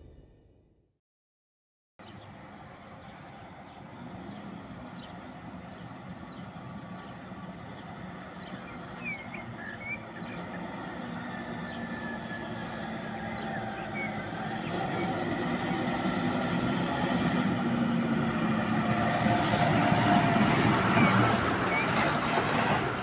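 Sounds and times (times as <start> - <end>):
birds chirping: 2.0 - 17.2, 17.8 - 23.0
tractor engine hum: 2.0 - 23.0.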